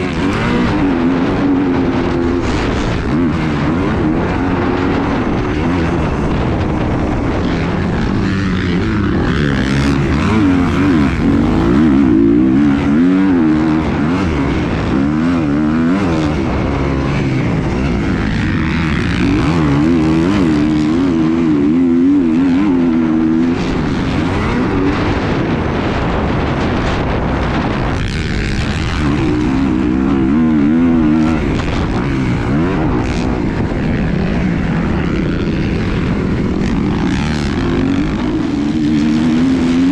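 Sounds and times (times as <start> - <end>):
propeller engine droning: 0.0 - 39.9.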